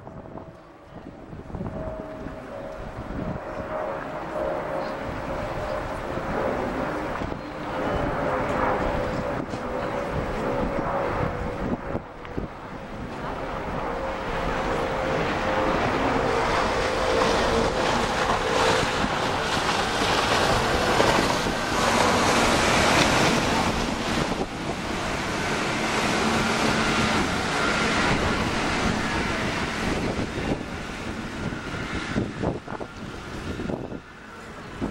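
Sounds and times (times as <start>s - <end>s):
wind on microphone: 0.0s - 34.9s.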